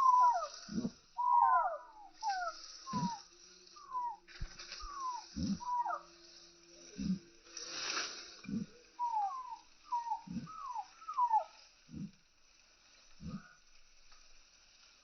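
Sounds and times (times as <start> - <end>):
rustling: 1.9 - 15.0.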